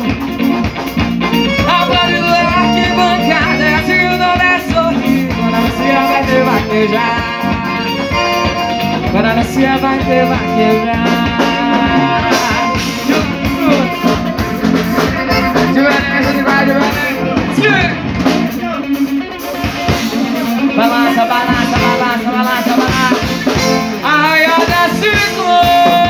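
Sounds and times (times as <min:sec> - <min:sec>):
accordion: 0:00.0 - 0:26.0
bass guitar: 0:00.0 - 0:26.0
drum kit steady beat: 0:00.0 - 0:26.0
electric guitar: 0:00.0 - 0:26.0.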